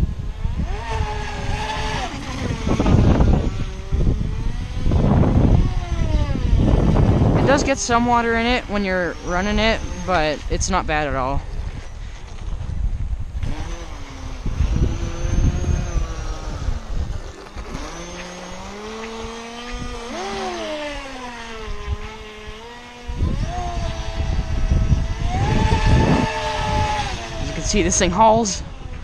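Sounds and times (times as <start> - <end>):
rc boat motor whining: 0.0 - 12.4, 13.3 - 29.0
low rumbling noise: 0.0 - 29.0.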